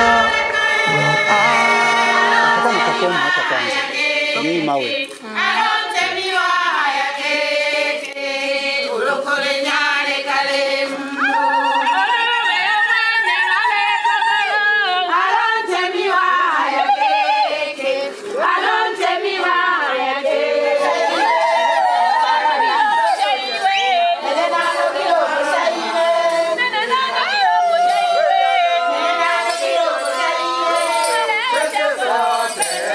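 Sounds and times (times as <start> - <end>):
women singing unaccompanied: 0.0 - 32.9.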